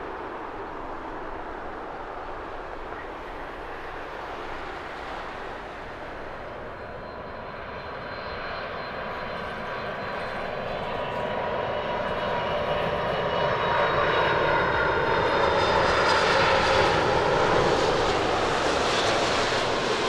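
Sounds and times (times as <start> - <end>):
high jet engine whine: 0.0 - 20.0
jet engines landing: 0.0 - 20.0.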